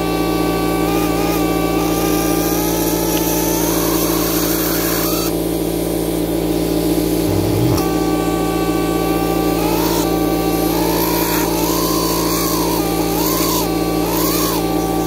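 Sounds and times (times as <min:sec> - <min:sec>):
power scribe buzzing: 0:00.0 - 0:05.8, 0:06.5 - 0:15.0.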